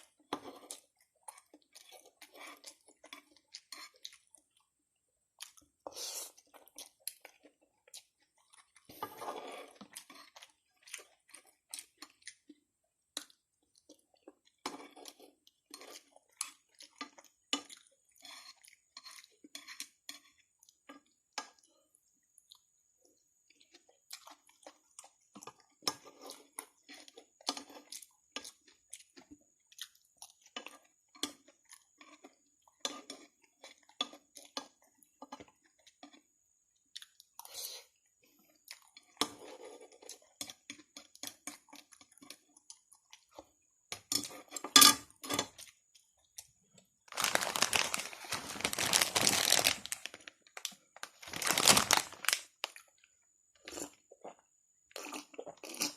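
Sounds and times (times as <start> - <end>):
wet chewing with mouth clicks: 0.0 - 55.9.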